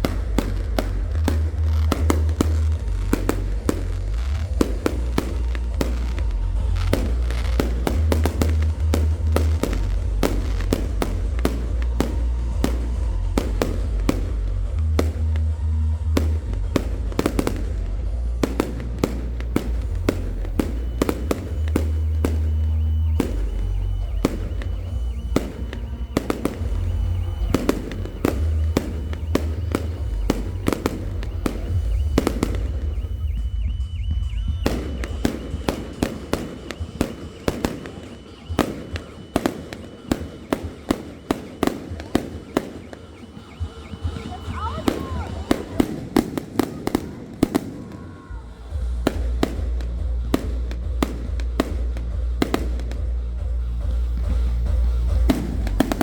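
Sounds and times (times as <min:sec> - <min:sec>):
fireworks bangs and crackles: 0:00.0 - 0:56.0
loud music with heavy bass: 0:00.0 - 0:56.0.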